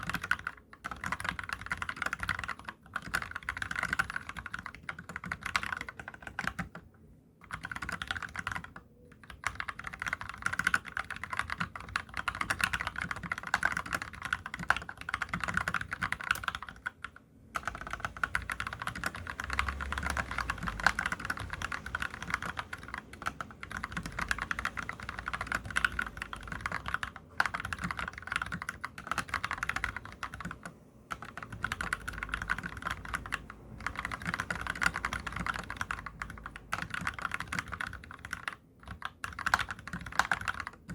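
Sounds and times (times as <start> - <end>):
fast mechanical keyboard typing: 0.0 - 40.9.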